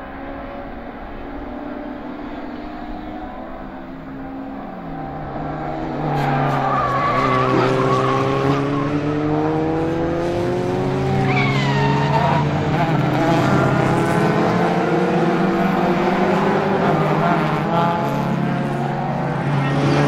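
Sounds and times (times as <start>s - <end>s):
race car engines accelerating: 0.0s - 20.0s.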